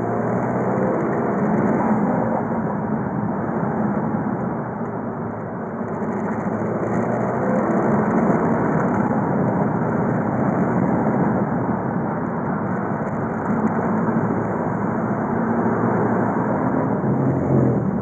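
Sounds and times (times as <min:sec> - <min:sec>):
road and drivetrain noise: 0:00.0 - 0:18.0.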